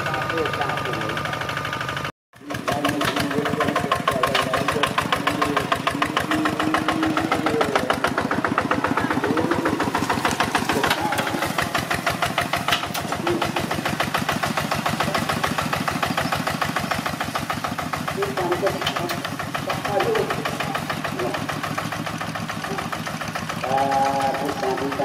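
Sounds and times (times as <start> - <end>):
diesel tractor engine under load: 0.0 - 25.0.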